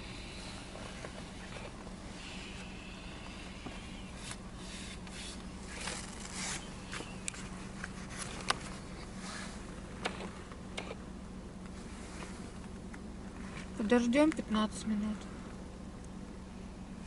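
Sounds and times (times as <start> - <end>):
car idling hum: 0.0 - 17.0.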